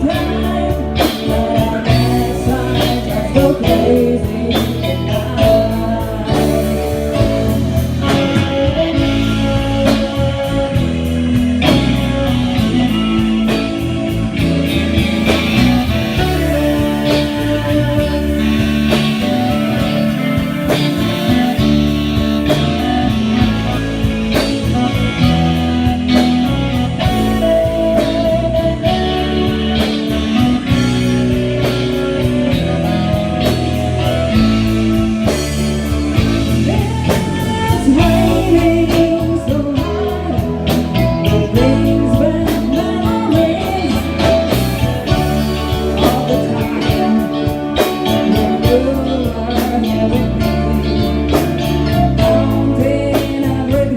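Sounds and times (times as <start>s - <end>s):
drum kit: 0.0s - 53.9s
electric guitar: 0.0s - 53.9s
person singing: 0.0s - 53.9s.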